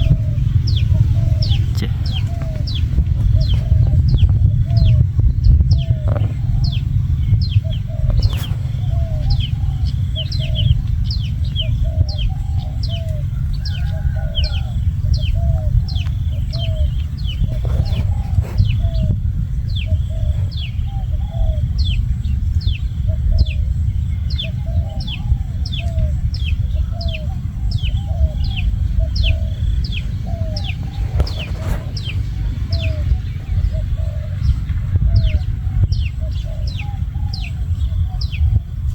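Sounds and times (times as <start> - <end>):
constant low rumble: 0.0 - 38.9
lower arched bird notes: 0.0 - 38.9.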